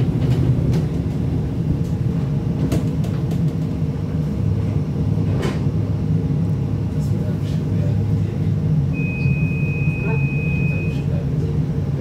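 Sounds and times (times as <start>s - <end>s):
tram rumbling: 0.0s - 12.0s.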